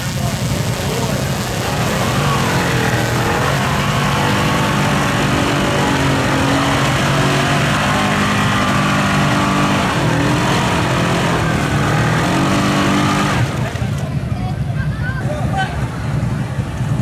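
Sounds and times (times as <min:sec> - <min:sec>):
quad engine running hard: 0:00.0 - 0:17.0.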